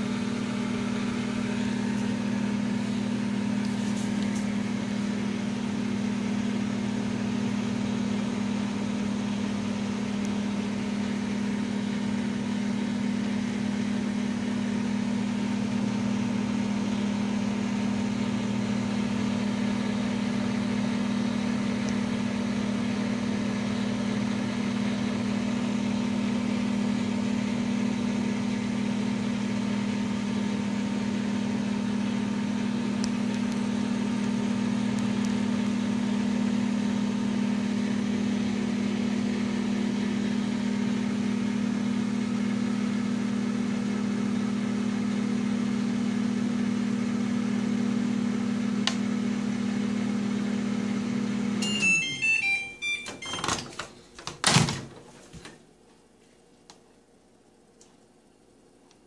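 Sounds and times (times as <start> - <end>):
microwave oven humming: 0.0 - 59.0.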